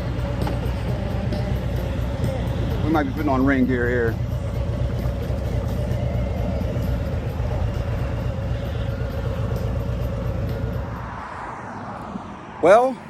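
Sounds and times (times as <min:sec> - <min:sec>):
heavy wind rumble: 0:00.0 - 0:13.0
motorcycle engine cruising: 0:00.0 - 0:13.0.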